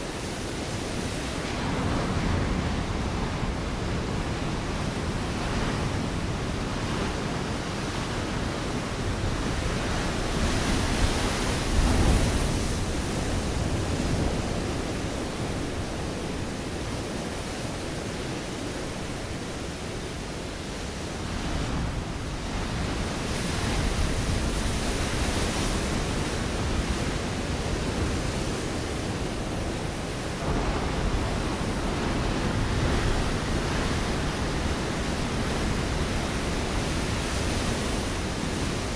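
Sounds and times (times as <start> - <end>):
ocean waves breaking on rocks: 0.0 - 38.9.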